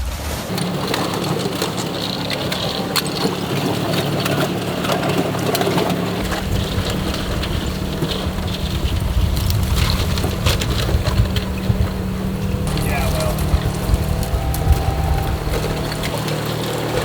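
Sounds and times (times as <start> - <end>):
utility vehicle engine running: 0.0 - 17.0
ice cracking and knocking: 0.5 - 17.0.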